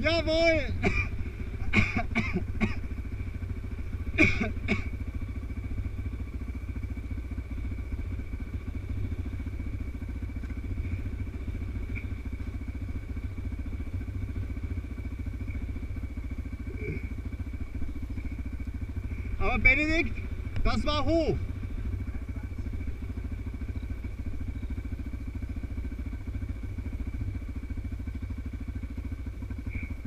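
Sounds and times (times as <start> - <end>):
dirt bike engine idling: 0.0 - 30.0
engine clatter: 0.0 - 30.0.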